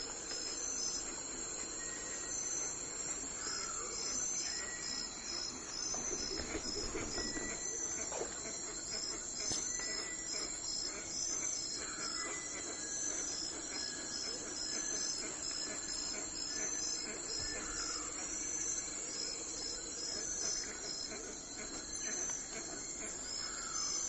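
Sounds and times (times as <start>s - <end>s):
insects chirping: 0.0s - 24.0s
steady background hiss: 0.0s - 24.0s.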